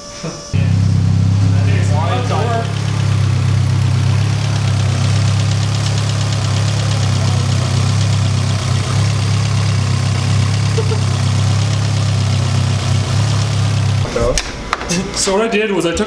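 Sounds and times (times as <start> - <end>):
car engine idling: 0.6 - 14.3.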